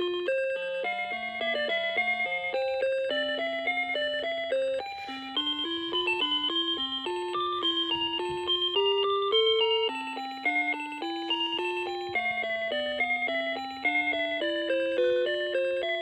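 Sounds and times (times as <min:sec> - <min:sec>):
electronic alarm clock melody: 0:00.0 - 0:16.0.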